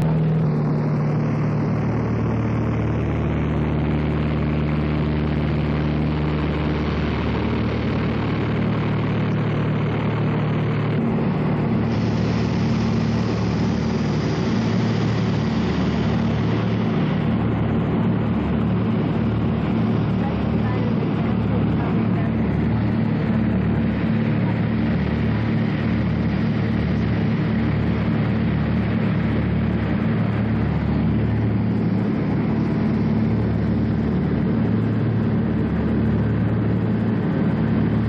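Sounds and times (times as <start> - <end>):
plane engine and propeller droning: 0.0 - 38.0.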